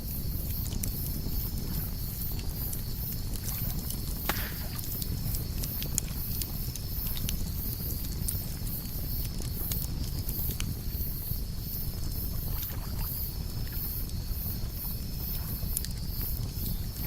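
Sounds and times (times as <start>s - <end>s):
campfire crackling: 0.0s - 12.3s, 13.3s - 17.0s
crickets chirping: 0.0s - 17.0s.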